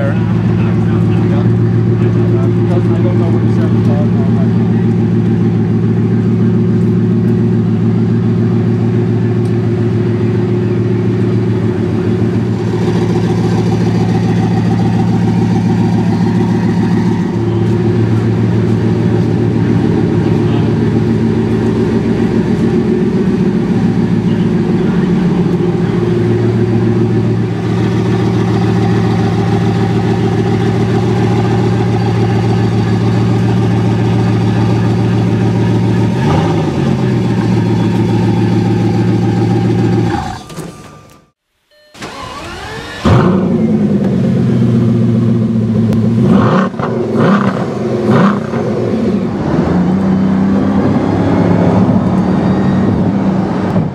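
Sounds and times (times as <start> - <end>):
car engine idling: 0.0 - 41.0, 42.0 - 53.9.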